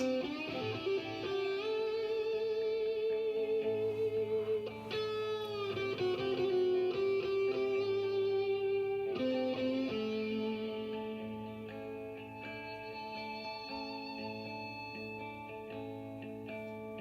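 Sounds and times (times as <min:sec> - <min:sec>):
electric guitar with vibrato: 0:00.0 - 0:17.0.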